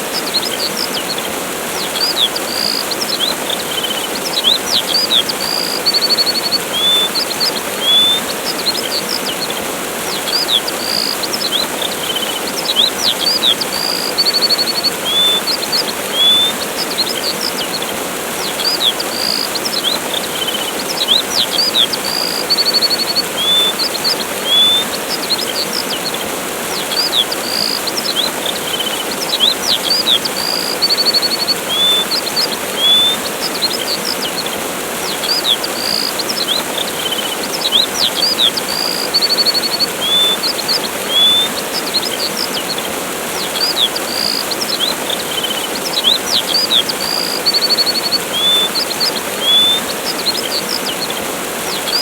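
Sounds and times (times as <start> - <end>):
small birds chirping: 0.0 - 52.0
waterfall rushing: 0.0 - 52.0.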